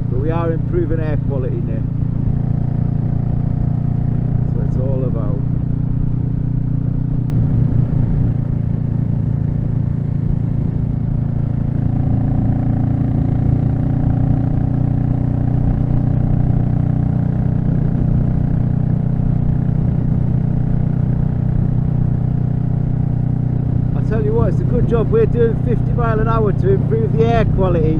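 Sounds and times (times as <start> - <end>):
motorcycle engine cruising: 0.0 - 27.9
road and wind noise: 0.0 - 27.9.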